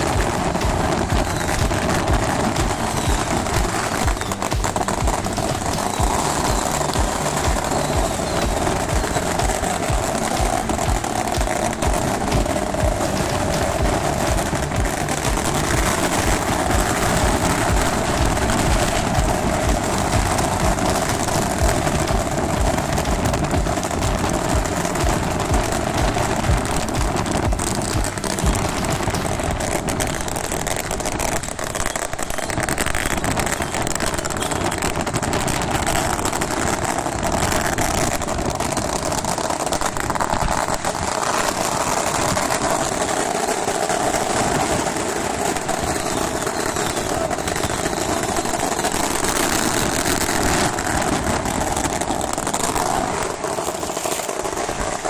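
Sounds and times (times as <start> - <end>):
engine drone: 0.0 - 53.8.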